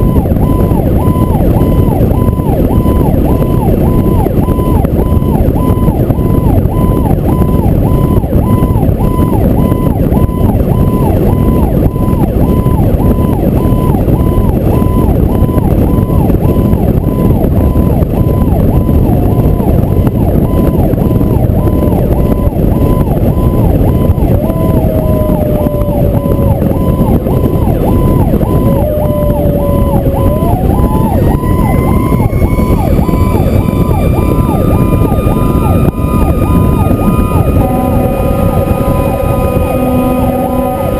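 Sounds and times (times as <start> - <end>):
fire truck engine: 0.0 - 40.9
pulsing siren: 0.0 - 40.9
wailing siren: 0.0 - 40.9
wind noise on microphone: 0.0 - 40.9.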